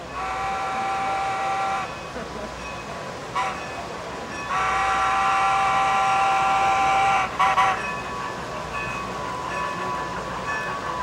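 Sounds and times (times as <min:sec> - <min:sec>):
model steam locomotive whistle: 0:00.0 - 0:02.1, 0:02.7 - 0:11.0.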